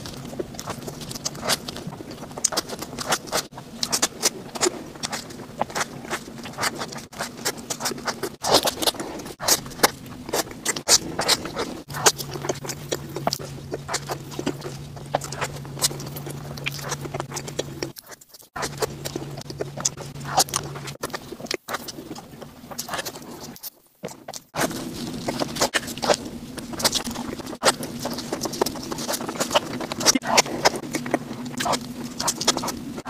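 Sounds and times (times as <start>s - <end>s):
close chewing mouth sounds: 0.0s - 33.0s.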